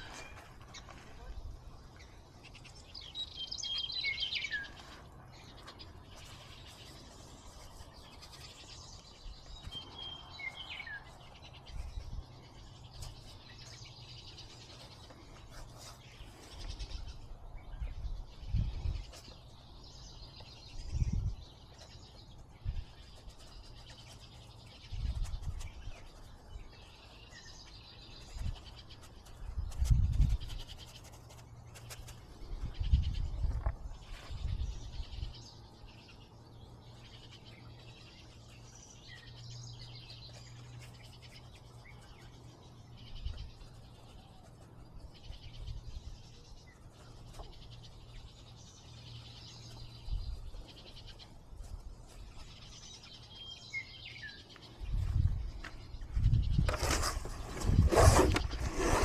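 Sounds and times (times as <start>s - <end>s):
distant birds twittering: 0.0s - 59.0s.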